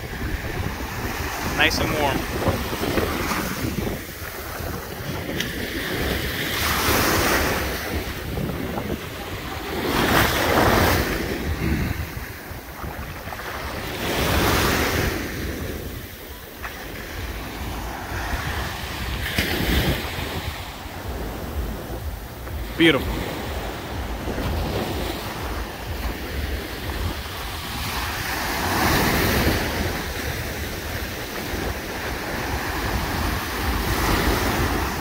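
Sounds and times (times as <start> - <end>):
small waves breaking on beach: 0.0 - 35.0
wind rumbling on microphone: 0.0 - 35.0.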